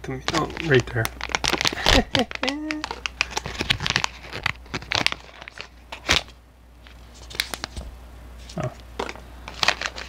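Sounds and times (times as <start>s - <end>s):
plastic bag crinkling: 0.2s - 7.8s, 8.5s - 10.0s.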